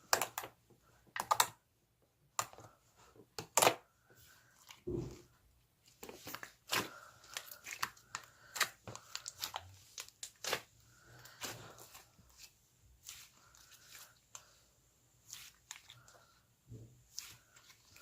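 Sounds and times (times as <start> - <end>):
slime squishing: 2.3 - 18.0.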